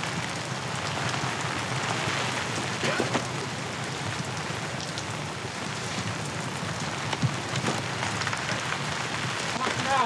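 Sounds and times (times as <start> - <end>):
steady rain pouring: 0.0 - 10.0.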